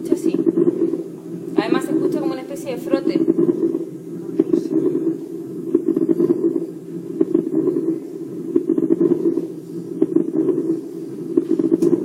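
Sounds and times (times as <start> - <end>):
lung crackles: 0.1 - 12.0.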